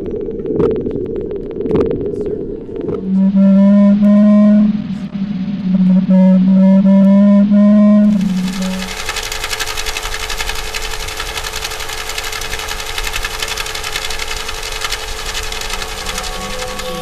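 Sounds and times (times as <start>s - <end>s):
underwater boat engine pulsing: 0.0s - 17.0s.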